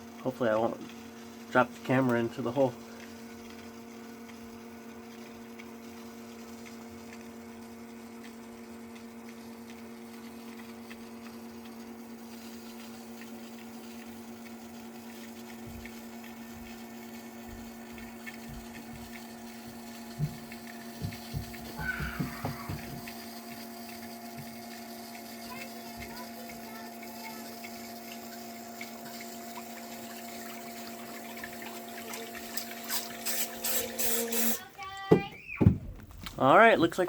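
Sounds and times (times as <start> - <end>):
sump pump motor hum: 0.0 - 37.0
water being pumped: 0.0 - 37.0.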